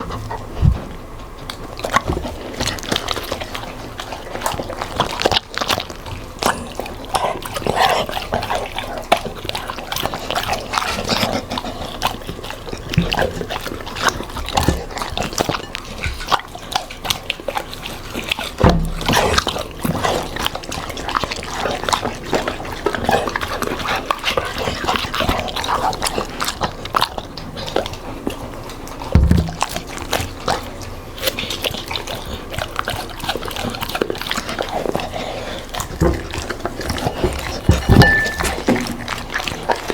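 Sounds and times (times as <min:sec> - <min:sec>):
dogs chewing and licking: 0:00.0 - 0:39.9.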